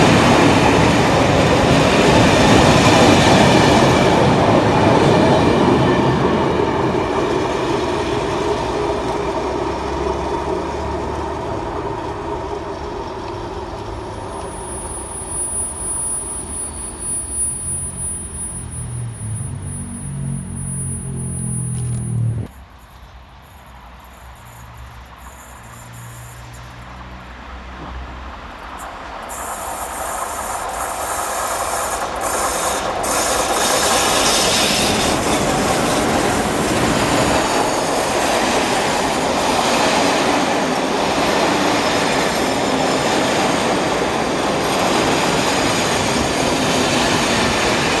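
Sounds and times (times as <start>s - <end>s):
train running past: 0.0s - 22.7s, 25.2s - 48.0s.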